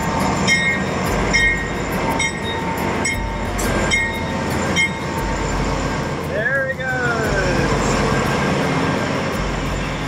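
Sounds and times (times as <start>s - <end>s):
diesel locomotive engine rumble: 0.0s - 10.0s
locomotive bell ringing: 0.0s - 10.0s
train wheels on rails: 0.0s - 10.0s.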